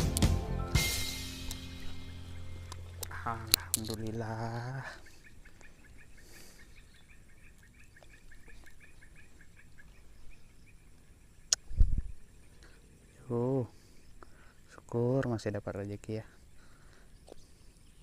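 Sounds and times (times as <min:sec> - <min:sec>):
bird chirping faintly: 0:01.5 - 0:18.0.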